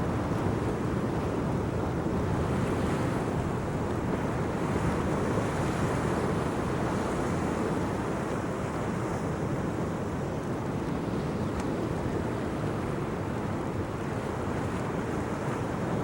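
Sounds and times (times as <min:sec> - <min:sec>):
sea waves washing on shore: 0:00.0 - 0:16.0
wind buffeting microphone: 0:00.0 - 0:16.0.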